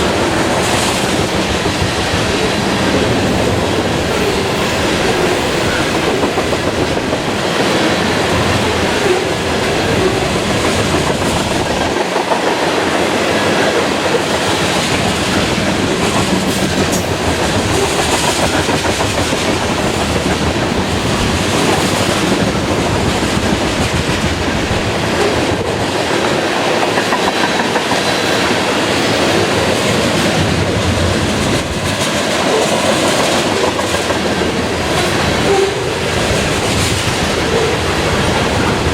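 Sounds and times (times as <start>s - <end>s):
train wheels clacking over rails: 0.0s - 38.9s.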